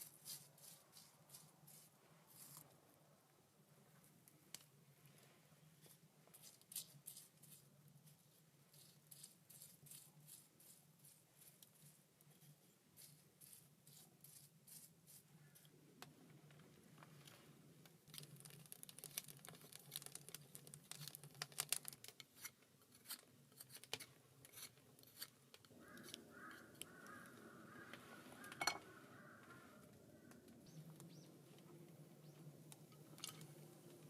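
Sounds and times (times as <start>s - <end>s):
crinkling handling noise: 3.9s - 34.0s.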